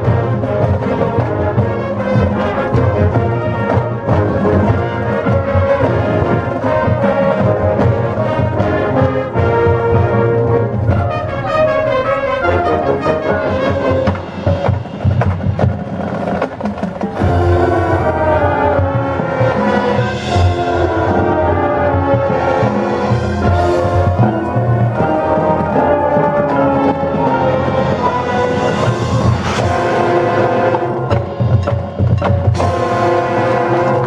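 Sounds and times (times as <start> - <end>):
brass section sustained chords: 0.0 - 14.5, 17.2 - 31.6, 32.5 - 34.0
drumline percussion: 0.0 - 34.0.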